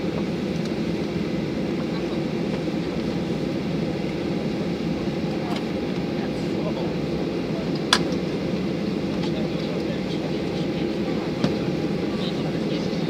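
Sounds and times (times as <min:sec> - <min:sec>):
jet engines idling rumble: 0:00.0 - 0:13.0.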